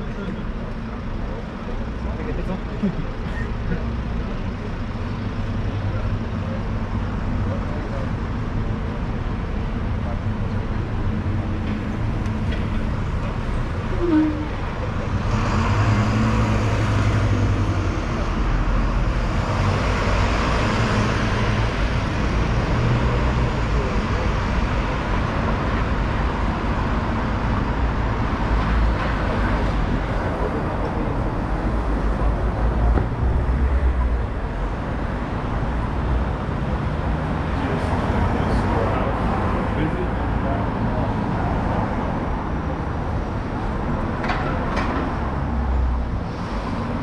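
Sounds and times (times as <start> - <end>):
steady road noise: 0.0 - 47.0
vehicles passing: 0.0 - 47.0.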